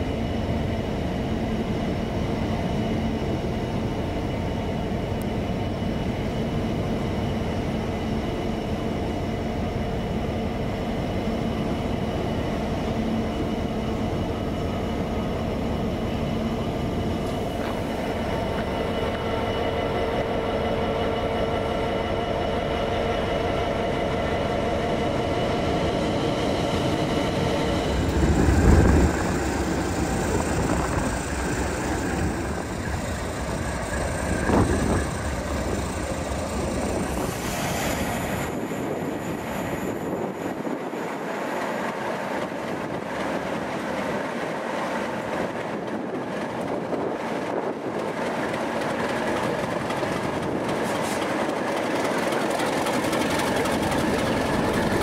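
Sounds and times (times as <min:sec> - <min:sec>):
low train rumbles: 0:00.0 - 0:55.0
train passing: 0:00.0 - 0:55.0
train whine: 0:00.0 - 0:55.0.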